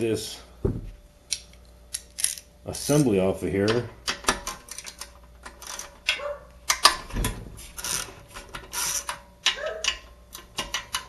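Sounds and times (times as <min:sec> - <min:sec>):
hand tools clicking on metal parts: 0:01.3 - 0:07.0, 0:07.8 - 0:11.0.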